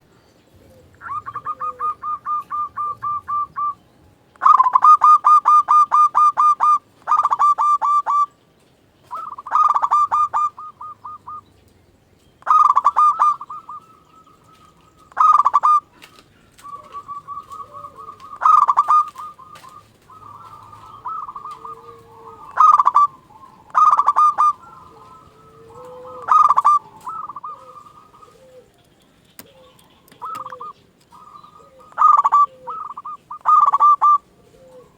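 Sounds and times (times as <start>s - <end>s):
fainter lower-pitched bird call: 0.0s - 11.7s, 12.4s - 34.9s
doves cooing: 0.0s - 34.9s.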